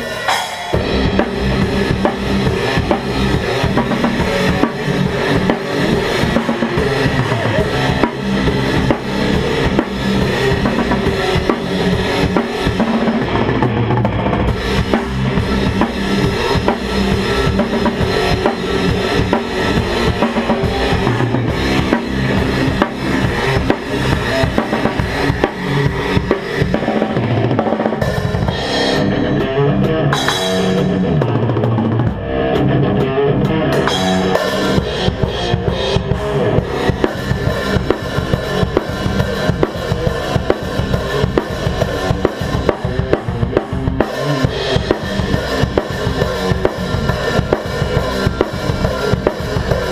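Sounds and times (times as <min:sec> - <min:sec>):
bass drum and snare: 0:00.0 - 0:49.9
metal band playing loudly: 0:00.0 - 0:49.9.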